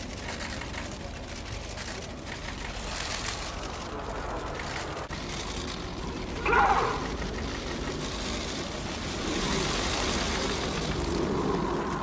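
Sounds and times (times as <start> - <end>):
jet aircraft rushing: 0.0 - 12.0.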